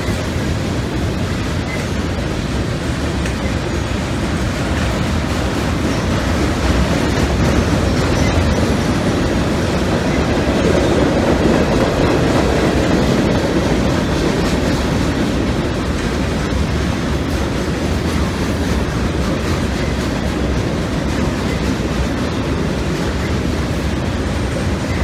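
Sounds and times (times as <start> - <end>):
freight train cars rattling past: 0.0 - 25.0.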